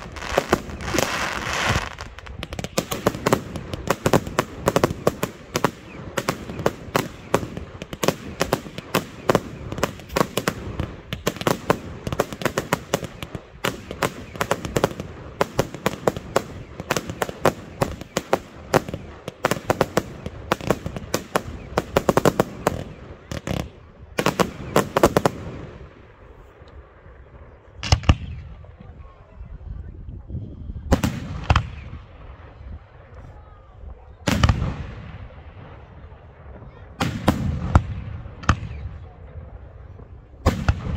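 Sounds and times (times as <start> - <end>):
heavy firework bangs: 0.0 - 26.1, 34.2 - 40.9
fireworks crackling and banging: 0.0 - 29.0, 30.9 - 40.9.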